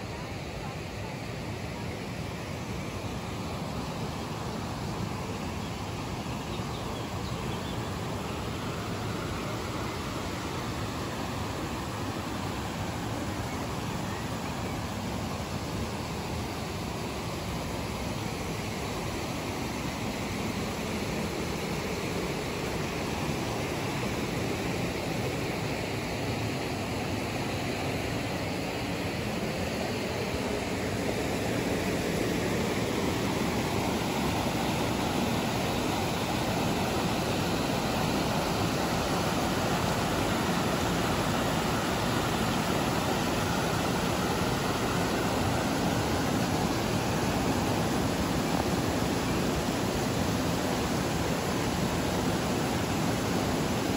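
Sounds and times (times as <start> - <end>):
river rushing over rocks: 0.0 - 53.9.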